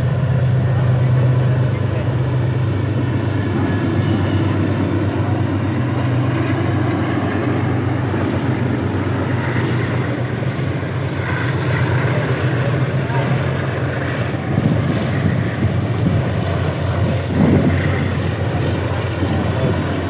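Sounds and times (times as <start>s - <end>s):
diesel locomotive drone: 0.0s - 20.0s
train coaches rumbling on rails: 0.0s - 20.0s.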